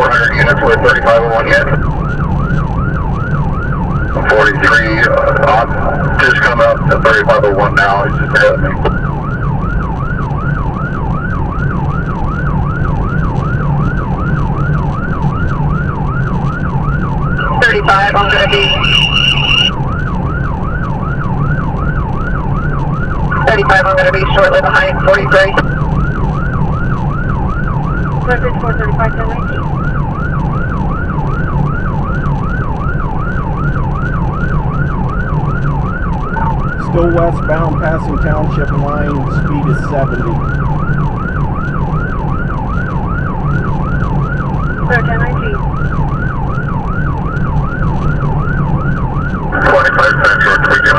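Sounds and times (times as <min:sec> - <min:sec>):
car engine and road noise: 0:00.0 - 0:50.9
police siren yelping: 0:00.0 - 0:50.9.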